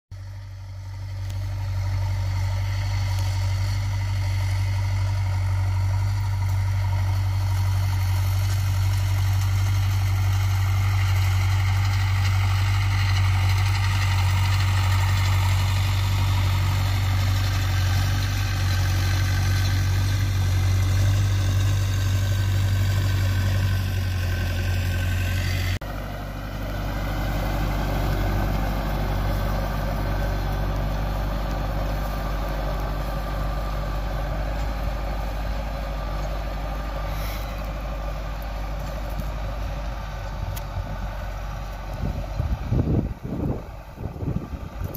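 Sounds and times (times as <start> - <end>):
tractor diesel engine running: 0.1 - 44.9.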